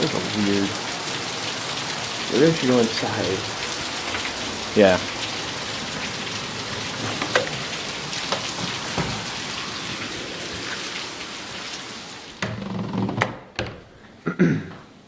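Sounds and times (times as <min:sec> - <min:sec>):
sharp raindrops striking close: 0:00.0 - 0:12.4
heavy rain pouring: 0:00.0 - 0:13.2.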